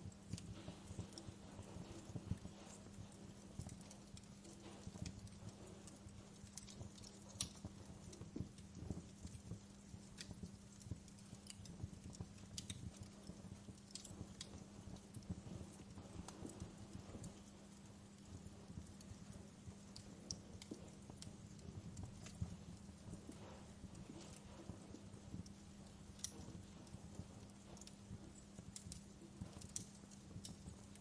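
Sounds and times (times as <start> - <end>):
steady low hum: 0.0 - 31.0
wood fire crackling and popping: 0.0 - 31.0.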